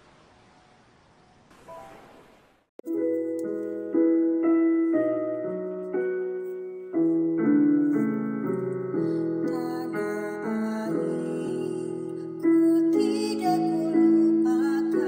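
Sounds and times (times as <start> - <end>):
faint hiss: 0.0 - 15.0
soft piano chords: 0.0 - 15.0.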